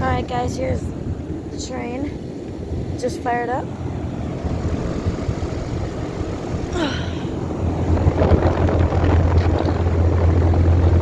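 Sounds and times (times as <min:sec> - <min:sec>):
compressor humming: 0:00.0 - 0:11.0
condenser fan rushing: 0:00.0 - 0:11.0.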